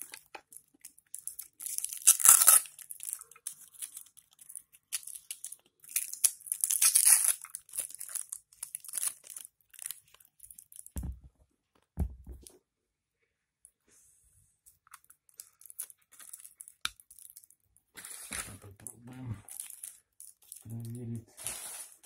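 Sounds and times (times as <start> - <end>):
plastic packaging crinkling and tearing: 0.0 - 11.0, 15.1 - 22.0.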